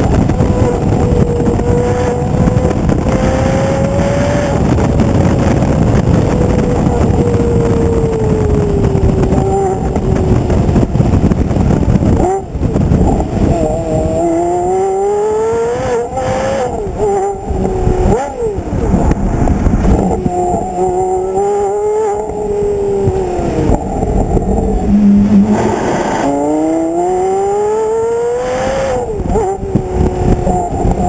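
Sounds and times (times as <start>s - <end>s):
sports car engine accelerating: 0.0s - 31.0s.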